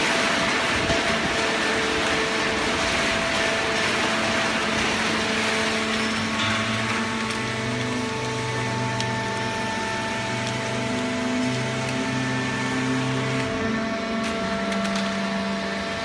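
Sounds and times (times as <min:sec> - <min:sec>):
hydraulic baler machine running: 0:00.0 - 0:16.0.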